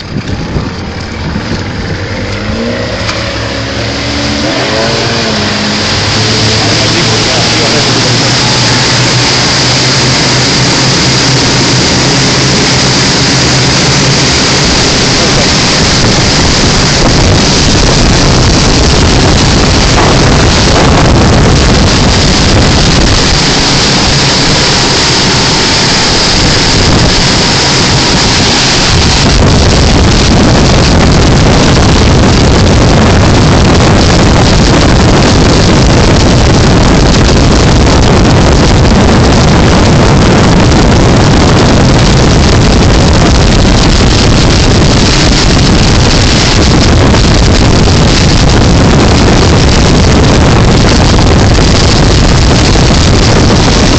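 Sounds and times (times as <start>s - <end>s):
boat engine drone: 0.0s - 53.9s
water rushing along hull: 0.0s - 53.9s
wind noise on microphone: 0.0s - 53.9s.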